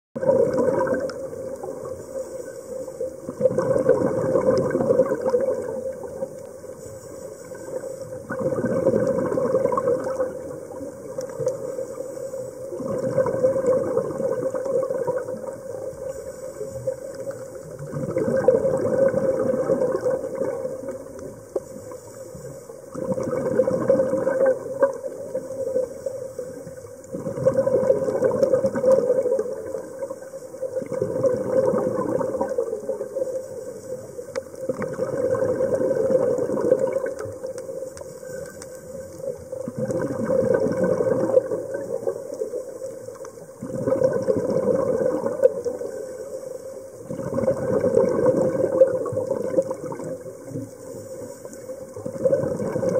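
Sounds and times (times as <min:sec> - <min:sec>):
diver exhaling bubbles underwater: 0:00.2 - 0:02.0, 0:03.2 - 0:06.4, 0:07.7 - 0:11.9, 0:12.7 - 0:21.4, 0:22.9 - 0:33.4, 0:34.6 - 0:37.8, 0:39.0 - 0:46.3, 0:47.0 - 0:50.7, 0:51.9 - 0:52.9.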